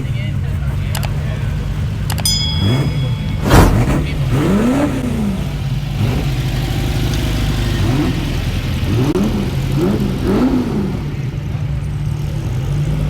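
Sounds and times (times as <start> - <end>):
car engine idling: 0.0 - 13.0
engine revving: 0.0 - 13.0.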